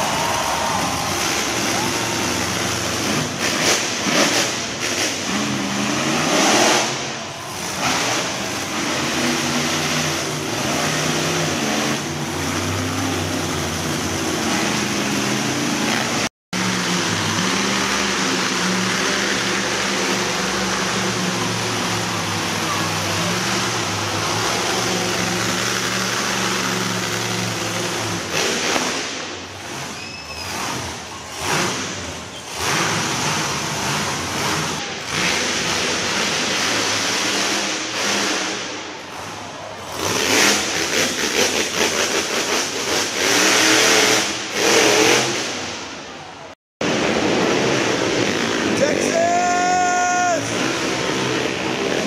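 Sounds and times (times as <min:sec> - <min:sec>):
truck engines revving: 0:00.0 - 0:52.0.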